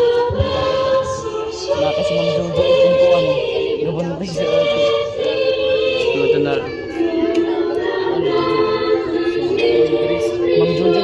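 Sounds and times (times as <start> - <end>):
group of voices singing: 0.0 - 11.0.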